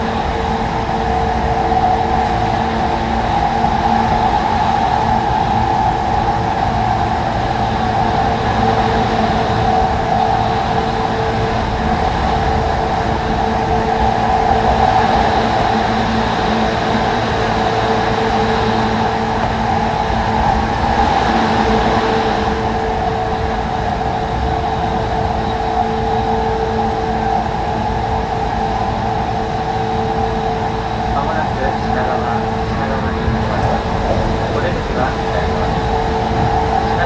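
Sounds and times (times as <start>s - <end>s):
steady humming tones: 0.0s - 37.0s
train wheels rumbling on rail: 0.0s - 37.0s.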